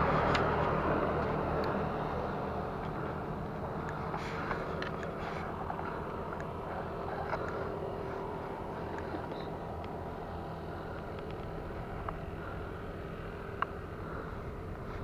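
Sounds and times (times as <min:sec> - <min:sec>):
distant engine noise: 0:00.0 - 0:15.0.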